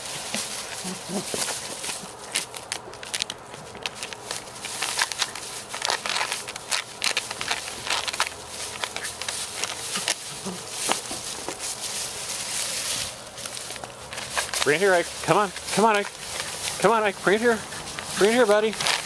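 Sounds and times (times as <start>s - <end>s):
dry leaves crunching and rustling: 0.0s - 19.0s.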